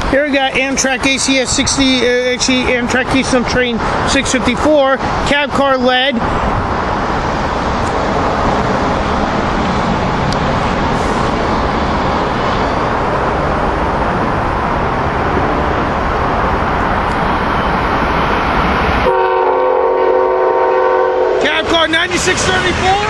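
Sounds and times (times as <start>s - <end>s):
train wheels rumbling on rails: 0.0s - 19.4s, 20.3s - 23.0s.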